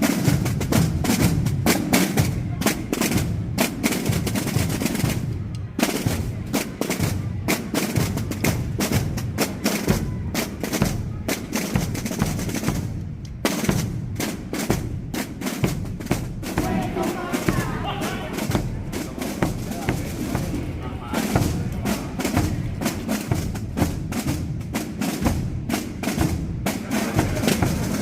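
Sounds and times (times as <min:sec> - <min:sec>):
drum band playing: 0:00.0 - 0:28.0.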